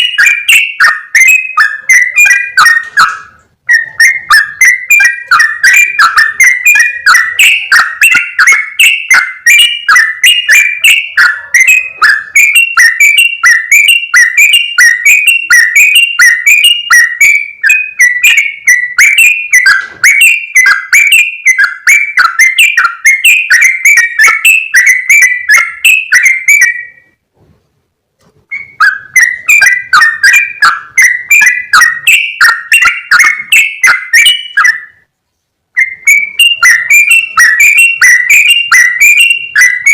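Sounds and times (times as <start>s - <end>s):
birds chattering: 0.0s - 27.2s, 28.5s - 35.1s, 35.8s - 39.9s.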